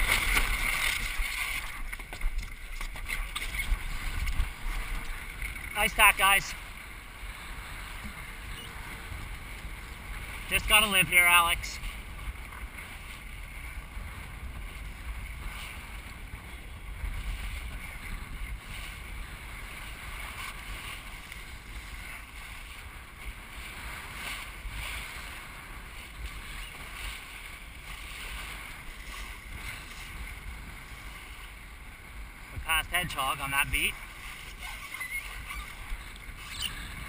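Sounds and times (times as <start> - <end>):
water washing past hull: 0.0 - 37.0
wind buffeting microphone: 0.0 - 37.0.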